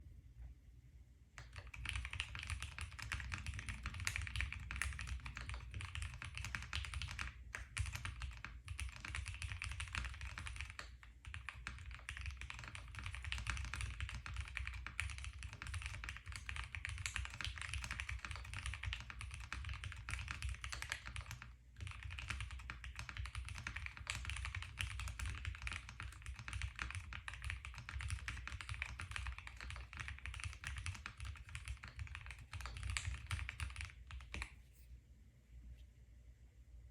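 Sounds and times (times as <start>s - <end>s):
typing on mechanical keyboard: 1.4s - 34.5s.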